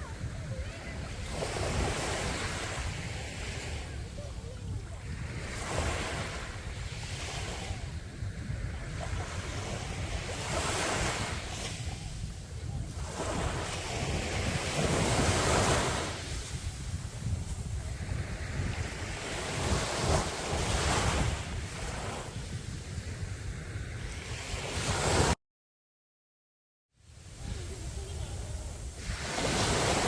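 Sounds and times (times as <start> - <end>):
waves breaking on beach: 0.0 - 25.4, 27.1 - 30.0
wind rumble on microphone: 0.0 - 25.4, 27.1 - 30.0.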